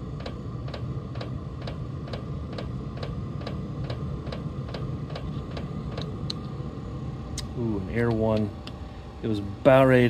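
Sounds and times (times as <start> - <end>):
blower humming: 0.0 - 10.0.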